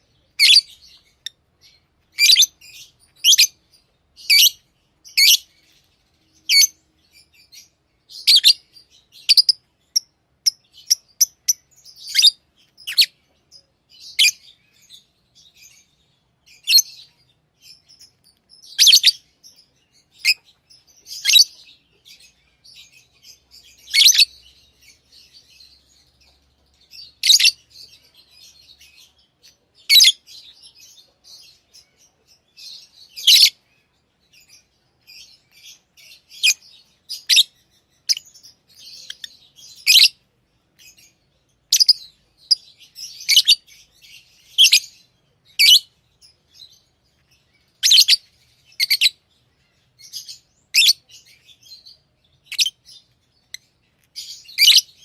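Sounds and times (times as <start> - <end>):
lovebirds chirping: 0.0 - 55.0
lovebirds twittering: 0.0 - 55.0.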